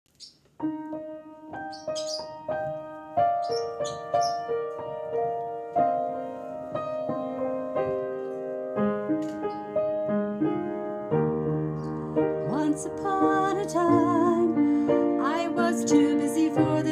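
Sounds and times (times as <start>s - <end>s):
slow piano notes and chords: 0.2s - 16.9s.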